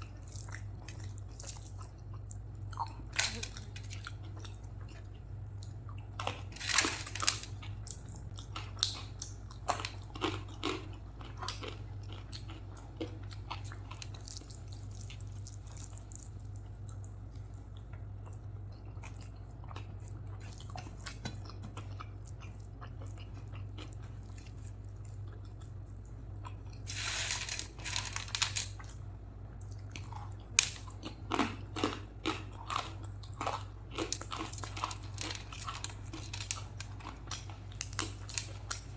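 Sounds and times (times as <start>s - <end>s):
crunchy chewing: 0.0s - 29.0s, 29.6s - 38.9s
person chewing food: 0.0s - 38.9s.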